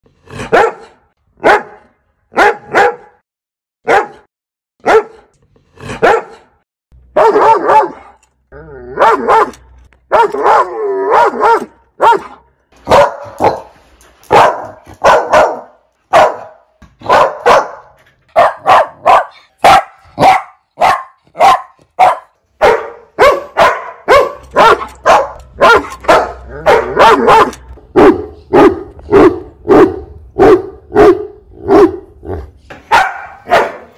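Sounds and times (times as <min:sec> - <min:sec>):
dogs barking: 0:00.5 - 0:03.2, 0:03.8 - 0:05.2, 0:06.0 - 0:06.5, 0:07.1 - 0:08.2, 0:09.0 - 0:33.9.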